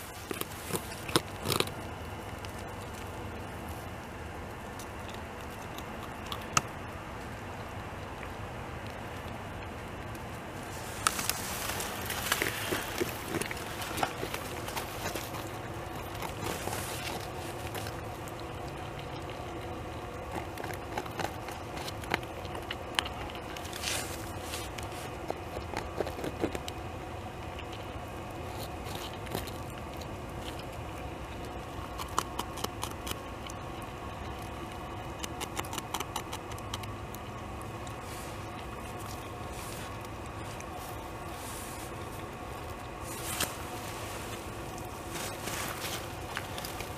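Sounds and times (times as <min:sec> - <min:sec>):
beaver gnawing bark: 0:00.0 - 0:46.9.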